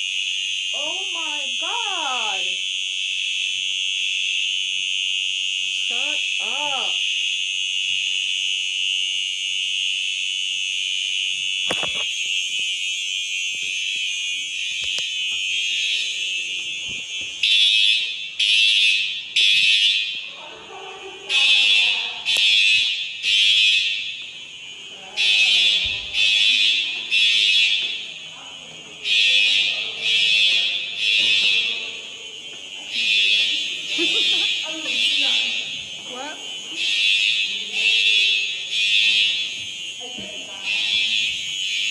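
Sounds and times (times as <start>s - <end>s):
fire alarm tone and beeps: 0.0s - 41.9s.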